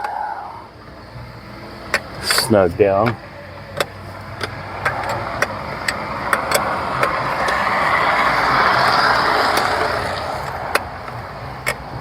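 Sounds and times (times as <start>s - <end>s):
vehicle passing: 2.1s - 12.0s.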